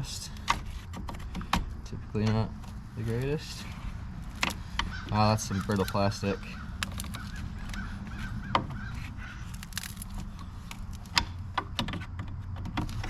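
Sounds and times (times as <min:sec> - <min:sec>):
plastic trim creaking: 0:00.0 - 0:13.0.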